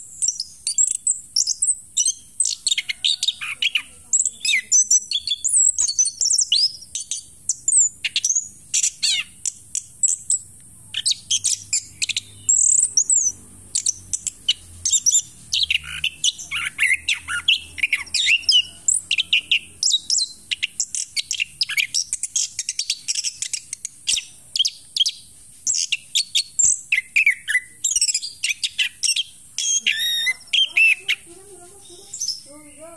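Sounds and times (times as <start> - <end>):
thrush singing chirps and whistles: 0.0 - 32.9.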